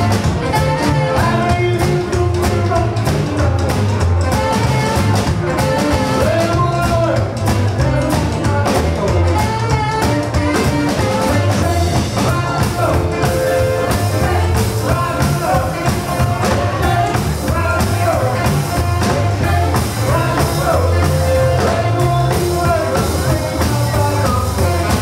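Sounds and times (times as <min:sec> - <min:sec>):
man singing lead vocals: 0:00.0 - 0:25.0
rock and roll band playing: 0:00.0 - 0:25.0
saxophone: 0:00.0 - 0:25.0.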